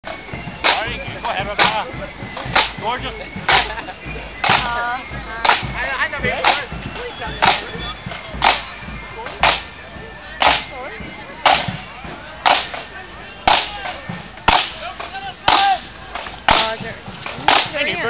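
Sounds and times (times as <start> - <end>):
side drums striking: 0.0 - 18.0.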